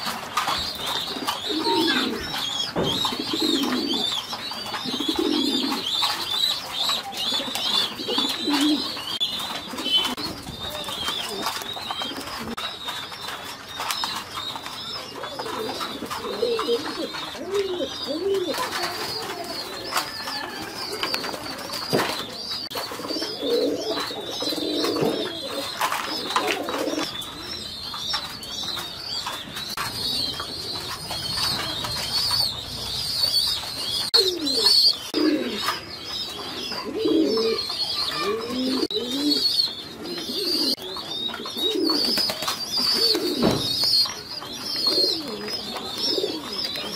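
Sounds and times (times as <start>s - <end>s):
pigeons cooing: 0.0s - 46.9s
small birds chirping: 0.0s - 46.9s.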